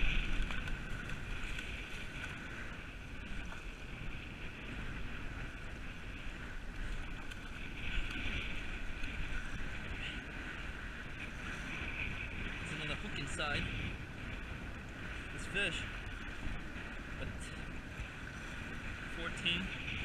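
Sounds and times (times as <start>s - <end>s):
sea water washing against rocks: 0.0s - 20.0s
wind buffeting microphone: 0.0s - 20.0s.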